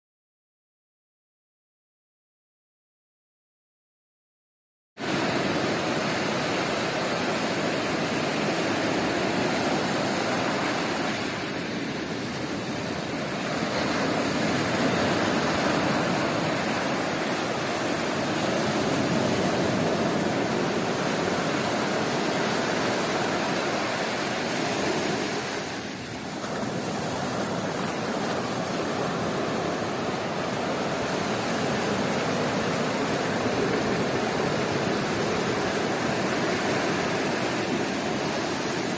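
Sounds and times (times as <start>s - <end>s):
sea waves breaking on beach: 5.0s - 38.9s.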